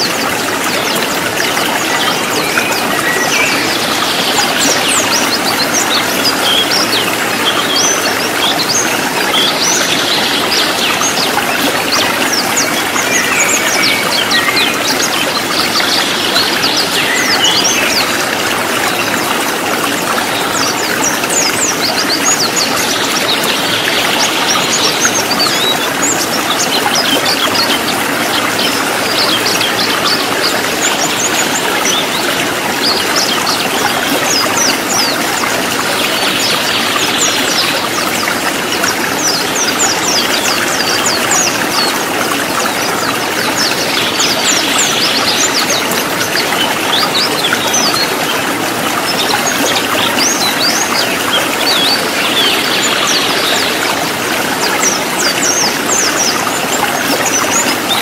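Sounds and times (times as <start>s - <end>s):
birds twittering: 0.0s - 58.0s
stream rushing over rocks: 0.0s - 58.0s.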